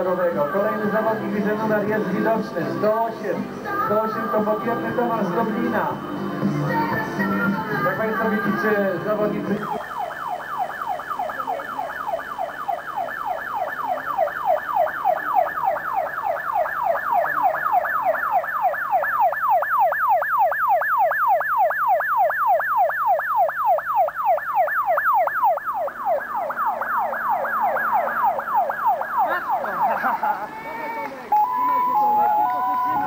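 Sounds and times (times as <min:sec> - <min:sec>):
electronic siren yelping: 0:03.9 - 0:30.6, 0:31.3 - 0:33.0.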